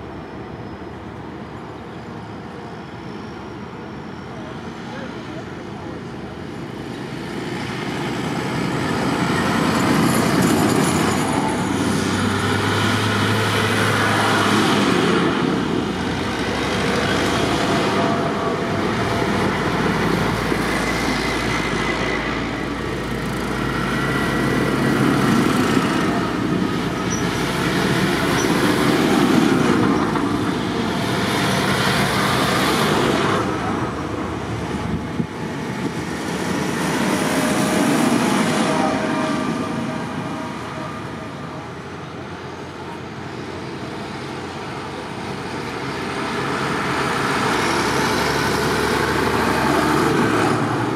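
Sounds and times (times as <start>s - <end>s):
tractors driving past: 6.8s - 50.9s.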